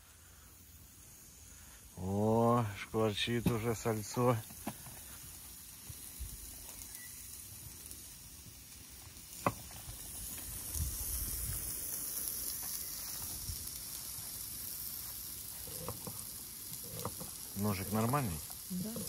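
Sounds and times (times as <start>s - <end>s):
fat sizzling in a frying pan: 0.0s - 19.0s.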